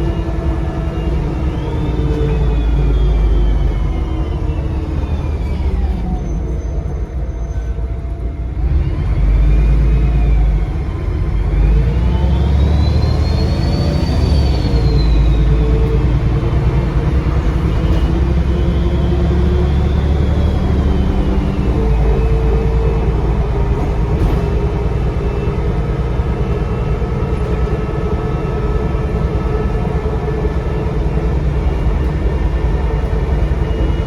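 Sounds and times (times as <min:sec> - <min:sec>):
turbocharger whistle: 0:00.0 - 0:06.7, 0:08.6 - 0:34.0
bus diesel engine under load: 0:00.0 - 0:34.0.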